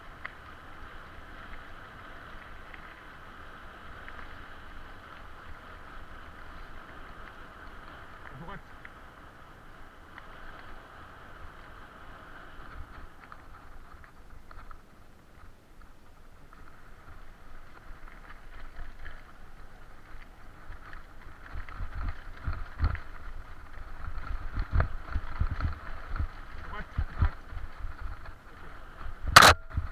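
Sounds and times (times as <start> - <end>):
bicycle tyres on dirt trail: 0.0 - 29.9.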